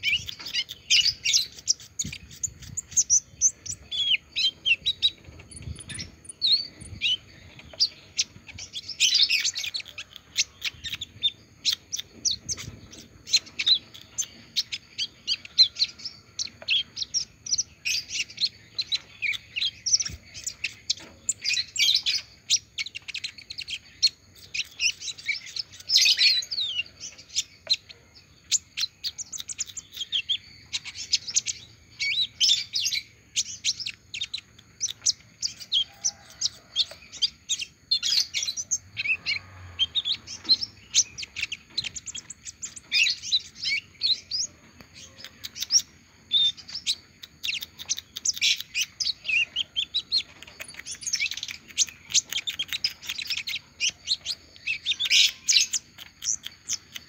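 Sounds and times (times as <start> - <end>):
bird twittering chirps: 0.0 - 57.0.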